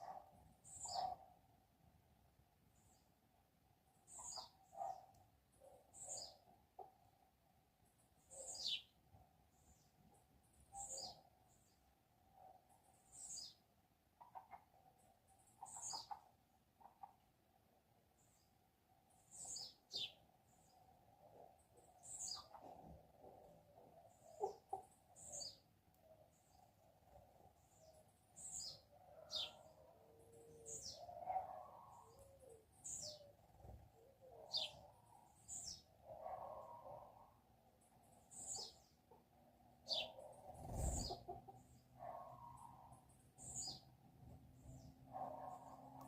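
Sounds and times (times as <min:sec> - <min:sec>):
small songbirds chirping: 0:00.0 - 0:46.0.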